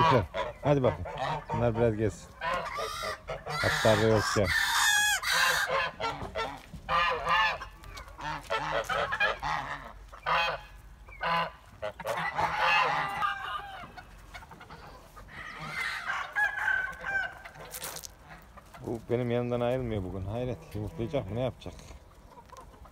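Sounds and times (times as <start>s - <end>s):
geese honking: 0.0s - 22.9s.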